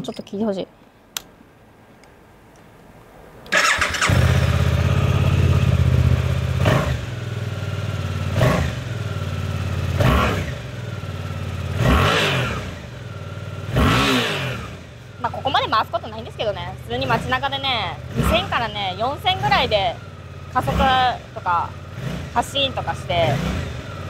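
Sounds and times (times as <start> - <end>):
motorcycle engine starting: 3.4 - 24.0
motorcycle engine idling: 3.6 - 13.8, 14.6 - 24.0.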